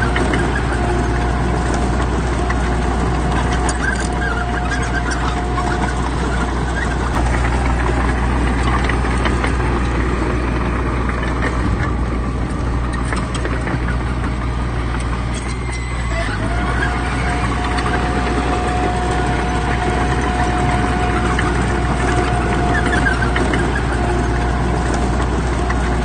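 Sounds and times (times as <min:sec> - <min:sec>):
heavy diesel machinery running: 0:00.0 - 0:26.0
high whine: 0:00.0 - 0:26.0.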